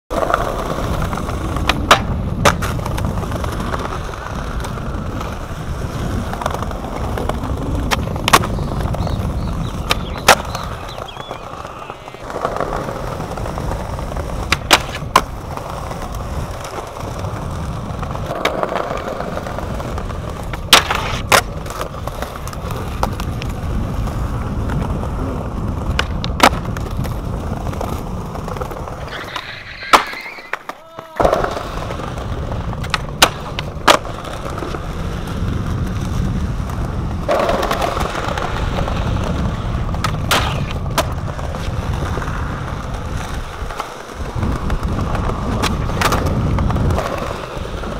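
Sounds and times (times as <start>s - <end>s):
skateboard wheels rolling on concrete: 0.1s - 47.9s
skateboard wooden clacks: 0.1s - 47.9s.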